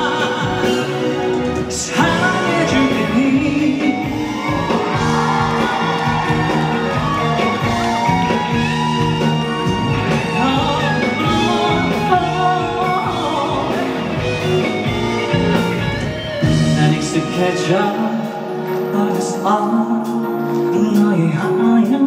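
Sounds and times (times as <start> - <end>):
person singing: 0.0 - 15.1, 16.4 - 22.0
live band playing pop ballad: 0.0 - 22.0.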